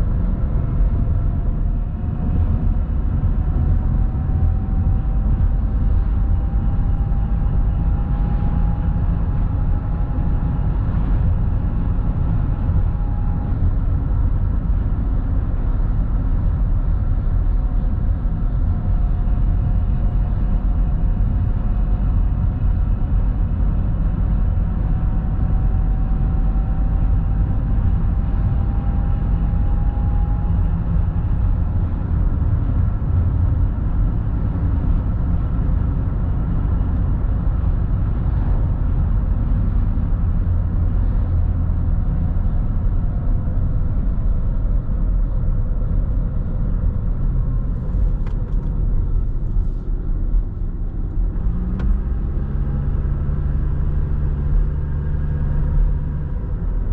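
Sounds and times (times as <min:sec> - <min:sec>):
car interior road rumble: 0:00.0 - 0:56.9.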